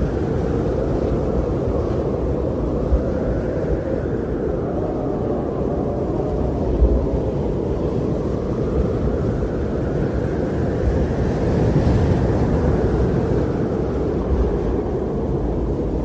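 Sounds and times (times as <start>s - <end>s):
wind rumbling: 0.0s - 16.0s.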